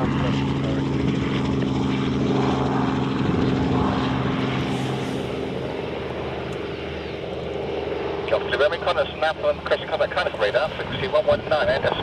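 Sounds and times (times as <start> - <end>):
jet engines humming: 0.0 - 12.0.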